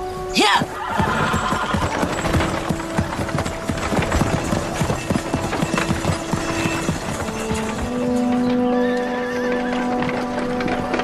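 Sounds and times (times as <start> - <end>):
horse hooves clip-clopping: 0.0 - 11.0
soft music: 0.0 - 11.0.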